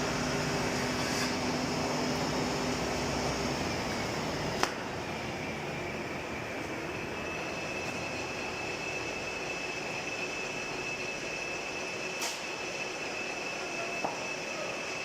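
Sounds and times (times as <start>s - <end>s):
sawing machine whining: 0.0s - 15.0s.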